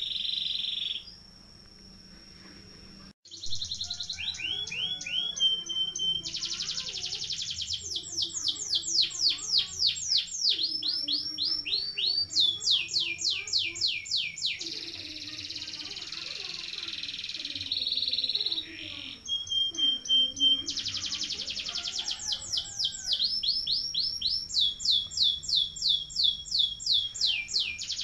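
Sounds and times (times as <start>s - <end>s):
canary singing trills: 0.0s - 1.3s, 3.3s - 28.0s.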